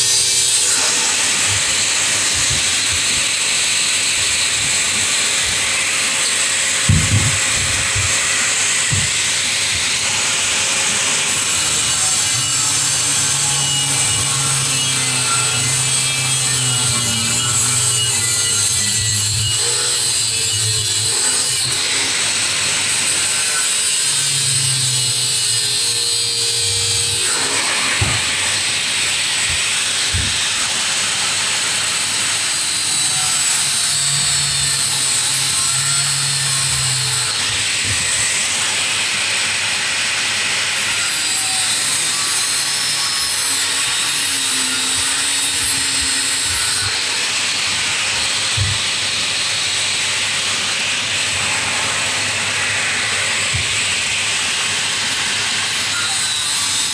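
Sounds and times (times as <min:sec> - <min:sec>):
angle grinder cutting metal: 0:00.0 - 0:56.9.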